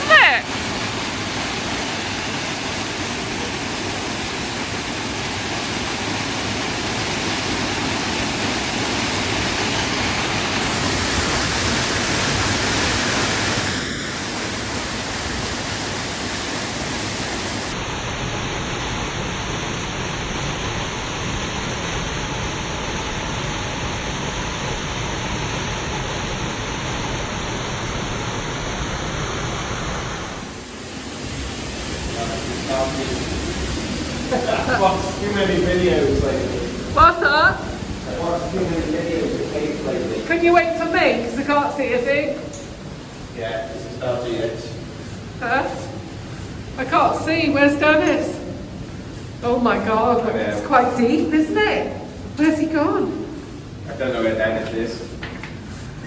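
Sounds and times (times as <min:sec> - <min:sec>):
waterfall rushing: 0:00.0 - 0:18.0, 0:27.6 - 0:56.0.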